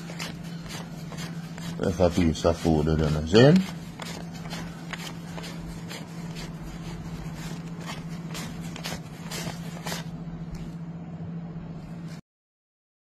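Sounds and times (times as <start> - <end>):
banknotes rustling: 0.0 - 10.8
steady low hum: 0.0 - 12.2.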